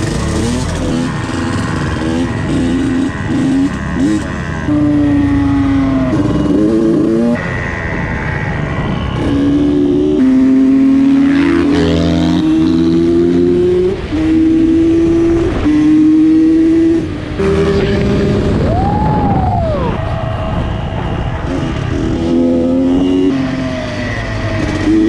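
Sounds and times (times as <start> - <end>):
dirt bike engine accelerating: 0.0 - 25.0.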